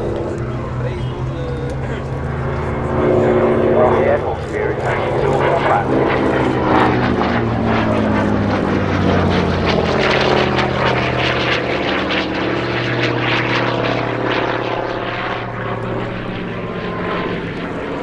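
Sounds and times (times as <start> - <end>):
propeller plane flying by: 0.0 - 18.0.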